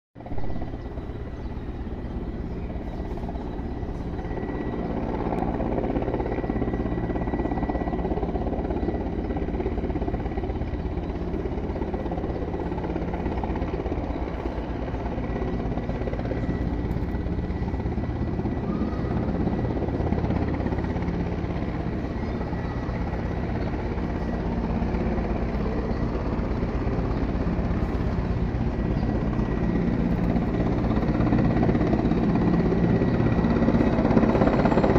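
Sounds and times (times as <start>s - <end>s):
helicopter rotor beating: 0.2s - 34.9s
high turbine whine: 0.2s - 34.9s.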